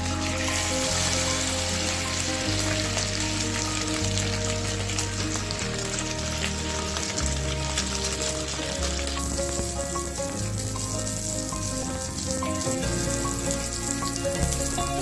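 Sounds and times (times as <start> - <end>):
background music with bass: 0.0 - 15.0
eggs sizzling in hot oil: 0.0 - 15.0.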